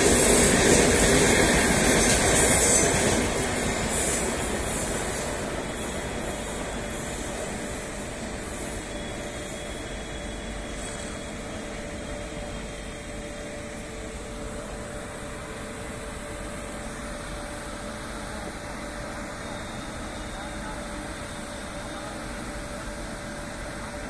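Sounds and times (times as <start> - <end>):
electric trains rumbling: 0.0 - 24.0.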